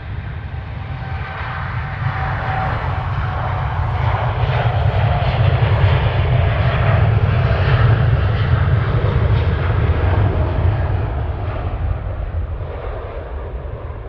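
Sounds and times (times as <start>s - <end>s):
airliner engines rumbling: 0.0s - 14.0s.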